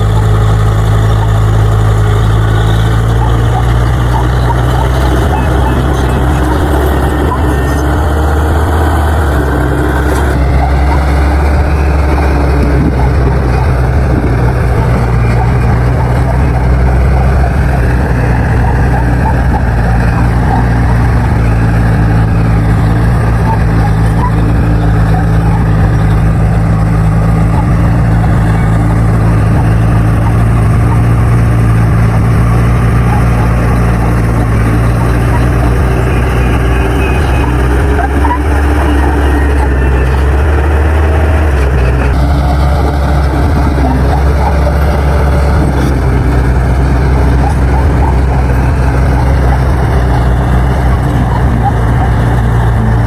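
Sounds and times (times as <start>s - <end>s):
bulldozer diesel engine: 0.0s - 53.0s.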